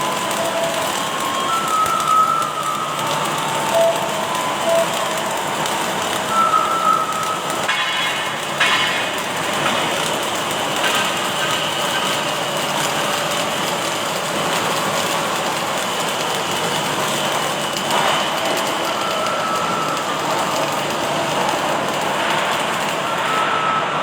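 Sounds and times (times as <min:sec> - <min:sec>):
welding arc hissing: 0:00.0 - 0:24.0
welding machine noise: 0:00.0 - 0:24.0.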